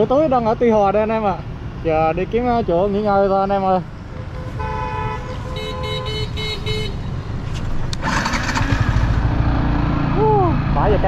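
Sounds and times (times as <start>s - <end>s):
low rumble of engines and road: 0.0s - 11.0s.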